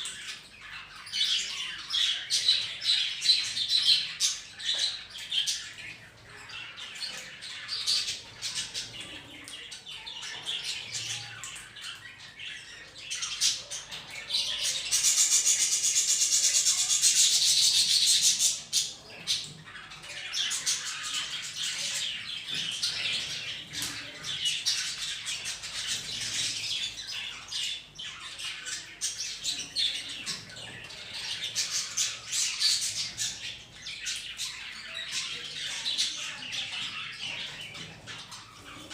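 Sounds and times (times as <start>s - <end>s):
budgies and parrot chattering: 0.0s - 38.9s.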